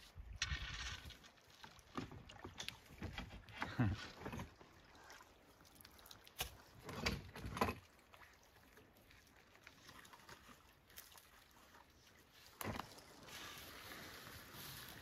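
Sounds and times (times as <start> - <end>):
faint running water: 0.0 - 15.0.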